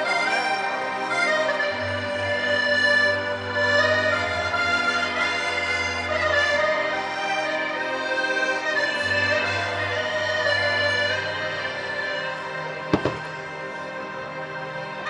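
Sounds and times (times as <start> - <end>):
instrumental music with held notes: 0.0 - 15.0.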